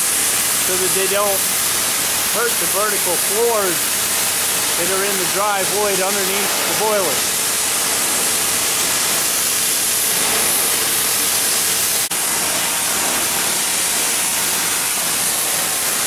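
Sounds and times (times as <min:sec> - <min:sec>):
cutting torch hissing: 0:00.0 - 0:16.0.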